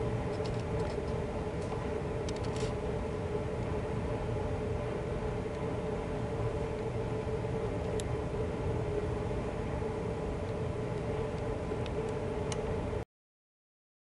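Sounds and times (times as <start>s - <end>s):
rumbling noise with hum: 0.0s - 13.0s.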